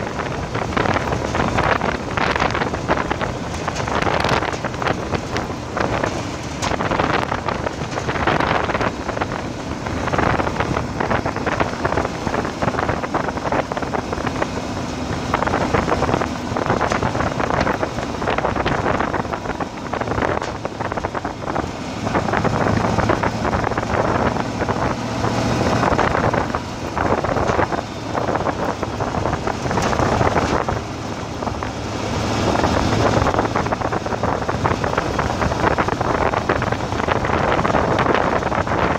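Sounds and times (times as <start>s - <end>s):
vehicle driving on gravel: 0.0s - 38.9s
wind buffeting microphone: 0.0s - 38.9s.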